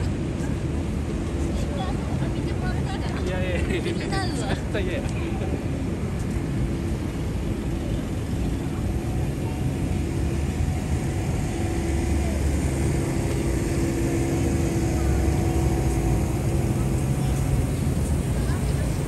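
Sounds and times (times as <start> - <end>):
constant droning tone: 0.0 - 19.0
street traffic engine hum: 0.0 - 19.0.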